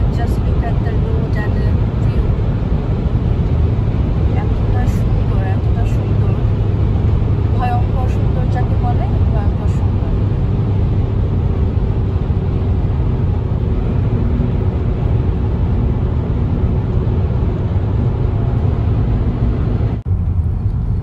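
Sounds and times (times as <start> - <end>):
car cabin road noise: 0.0 - 21.0.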